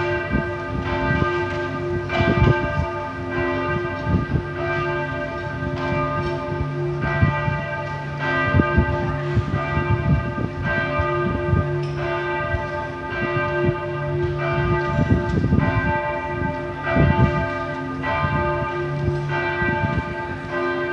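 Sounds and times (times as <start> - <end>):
church bells ringing in peal: 0.0 - 20.9.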